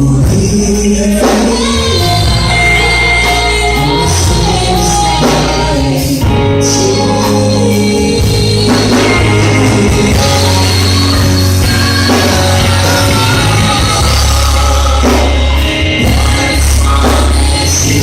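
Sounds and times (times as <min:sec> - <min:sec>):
worship band music: 0:00.0 - 0:18.0.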